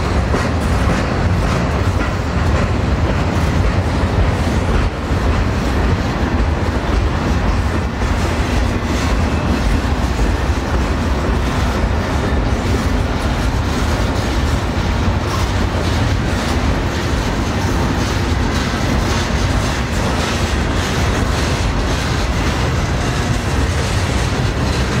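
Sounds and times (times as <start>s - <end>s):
freight train rolling past: 0.0s - 25.0s
wheels clickety-clack over rail joints: 0.0s - 25.0s.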